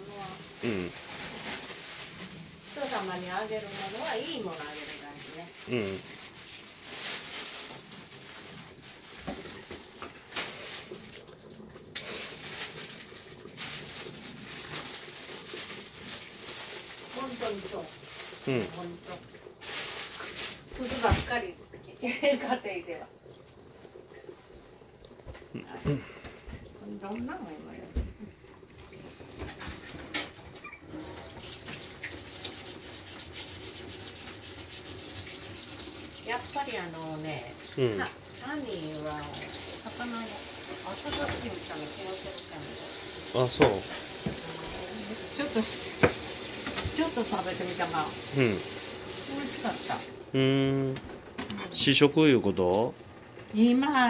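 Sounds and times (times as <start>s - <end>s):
water running from tap into sink: 0.0s - 54.0s.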